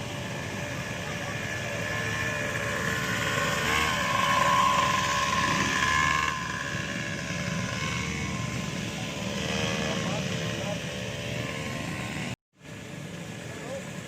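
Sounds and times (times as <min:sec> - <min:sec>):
small vehicle engine running: 0:00.0 - 0:14.0.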